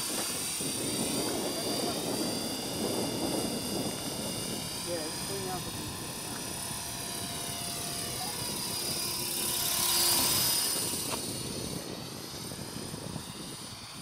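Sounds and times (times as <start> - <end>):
model helicopter motor whine: 0.0 - 14.0.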